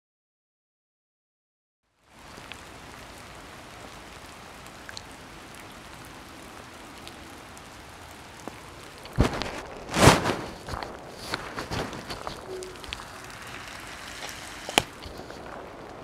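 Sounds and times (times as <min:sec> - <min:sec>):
steady rain falling: 0:01.9 - 0:16.0.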